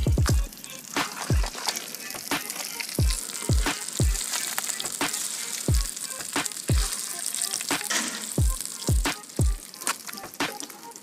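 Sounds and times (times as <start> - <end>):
crab sizzling in oil: 0.3 - 11.0.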